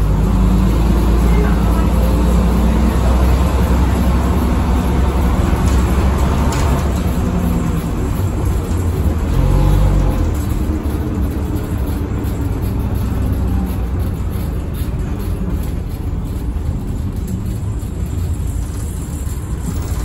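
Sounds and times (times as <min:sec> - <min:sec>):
diesel bus engine drone: 0:00.0 - 0:20.0
road noise: 0:00.0 - 0:20.0.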